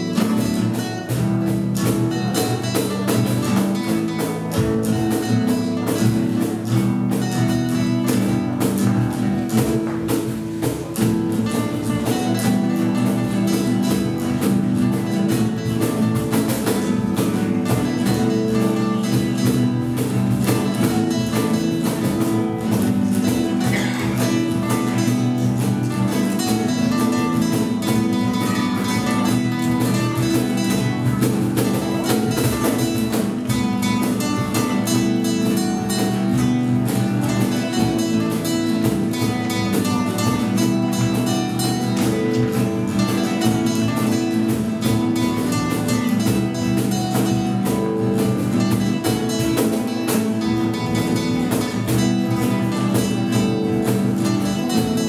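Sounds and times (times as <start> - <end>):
classical guitars playing: 0.0 - 55.0.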